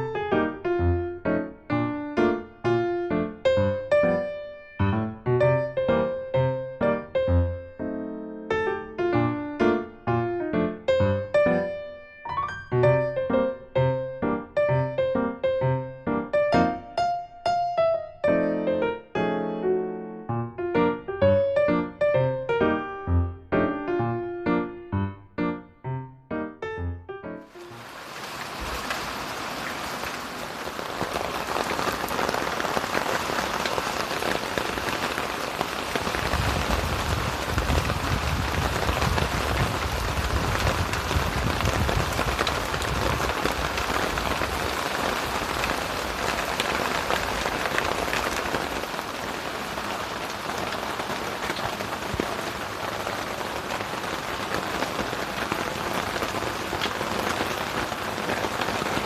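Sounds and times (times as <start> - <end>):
heavy rain: 0.0 - 7.8, 8.5 - 11.8, 12.4 - 17.2, 27.5 - 59.0.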